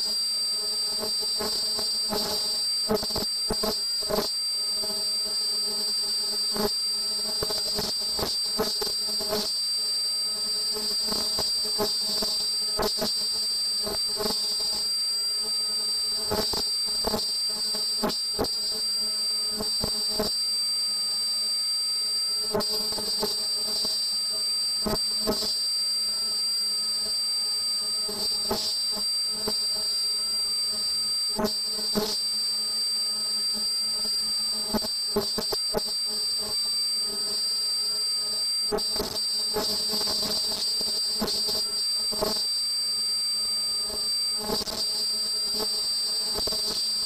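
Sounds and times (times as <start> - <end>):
cutting machine whine and hum: 0.0 - 47.0.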